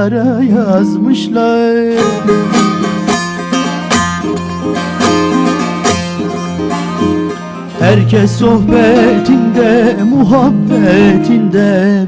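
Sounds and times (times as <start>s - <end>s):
plucked string instrument melody: 0.5s - 11.9s.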